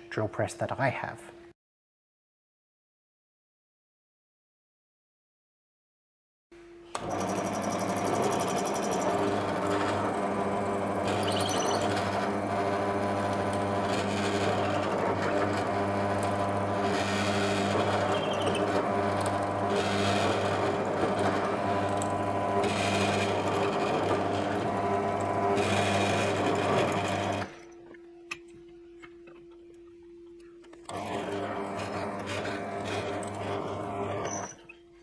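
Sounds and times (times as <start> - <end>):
drill press motor hum: 6.9 - 35.0.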